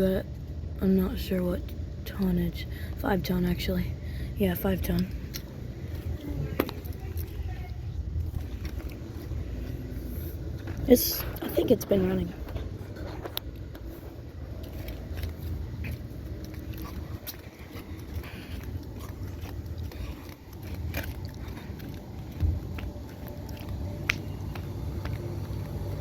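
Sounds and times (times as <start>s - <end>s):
air conditioner units humming: 0.0s - 26.0s
crunching and scraping clicks: 4.9s - 26.0s.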